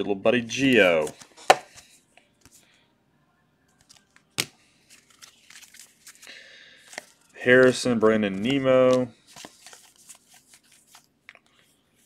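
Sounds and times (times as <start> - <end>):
cards rustling and clicking: 0.5 - 2.6, 3.7 - 11.8.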